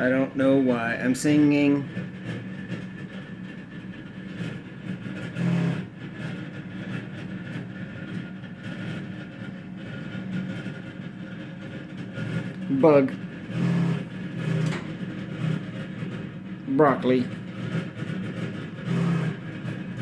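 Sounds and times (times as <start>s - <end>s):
refrigerator humming loudly: 0.0s - 20.0s.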